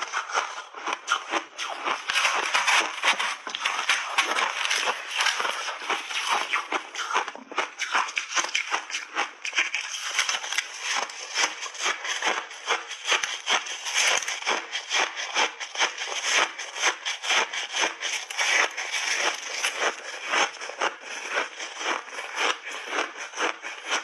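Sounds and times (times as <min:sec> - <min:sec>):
crunching frozen ice chunks: 0:00.0 - 0:24.0.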